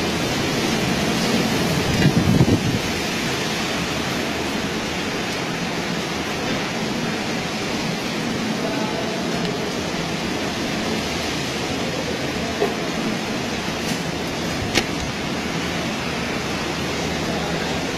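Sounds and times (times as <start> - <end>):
loud wind and rain: 0.0 - 17.9
low wind gust: 0.0 - 17.9.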